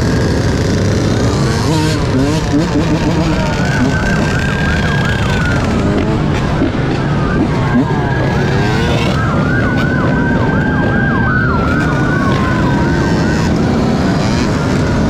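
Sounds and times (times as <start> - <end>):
engine and road rumble: 0.0 - 15.0
police siren wailing: 0.0 - 15.0.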